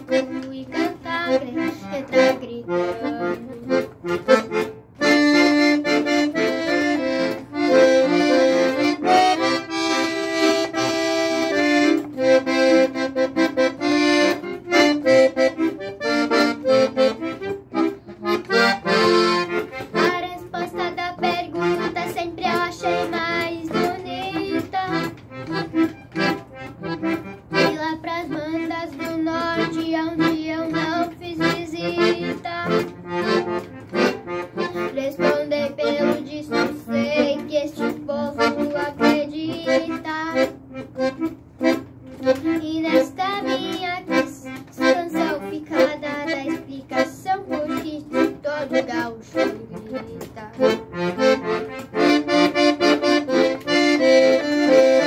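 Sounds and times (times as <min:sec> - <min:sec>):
piano accordion playing folk tune: 0:00.0 - 0:55.0.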